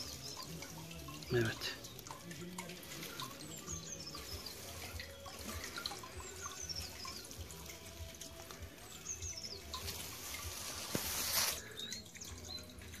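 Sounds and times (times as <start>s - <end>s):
water trickling over rocks: 0.0s - 13.0s.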